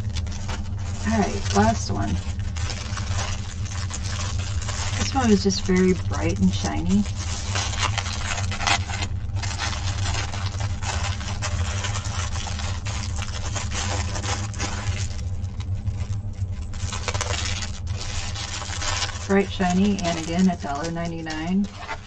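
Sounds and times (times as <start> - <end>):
plastic packaging crinkling: 0.0 - 22.0
steady low hum: 0.0 - 22.0.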